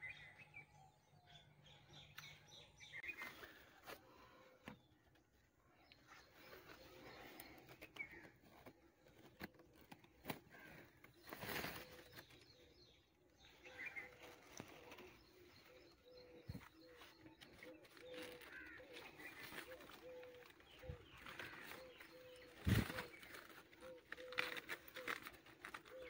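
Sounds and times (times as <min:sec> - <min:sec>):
faint bird calls and chirps: 0:00.0 - 0:26.0.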